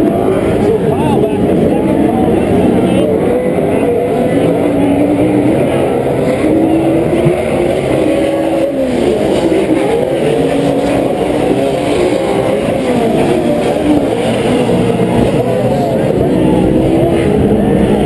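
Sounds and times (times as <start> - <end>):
race truck engines revving: 0.0 - 18.0.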